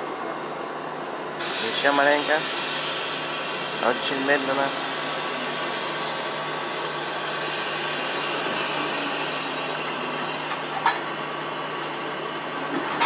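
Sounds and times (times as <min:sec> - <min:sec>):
locomotive ventilation fans whirring: 0:00.0 - 0:13.0.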